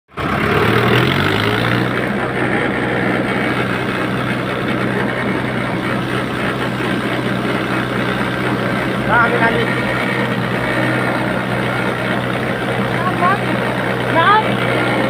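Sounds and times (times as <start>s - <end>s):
diesel tractor engine under load: 0.1s - 15.0s.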